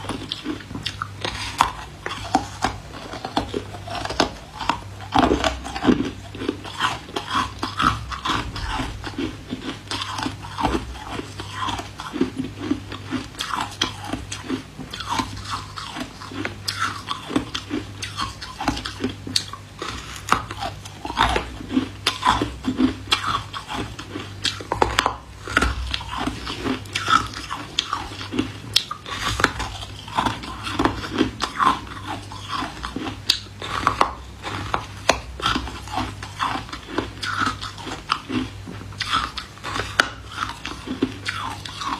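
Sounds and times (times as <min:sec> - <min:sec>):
crunching and chewing ice: 0:00.0 - 0:41.9.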